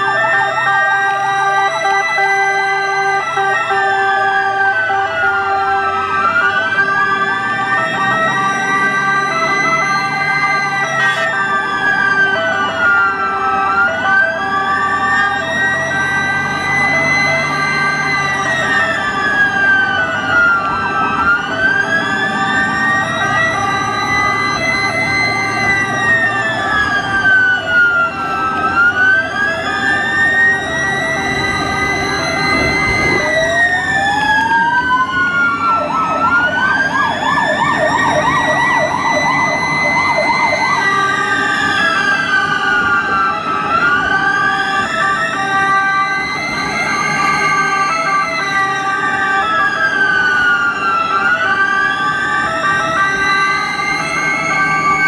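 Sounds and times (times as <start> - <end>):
fast warbling siren: 0.0 - 55.0
rising and falling siren wail: 0.0 - 55.0
steady-toned sirens: 0.0 - 55.0.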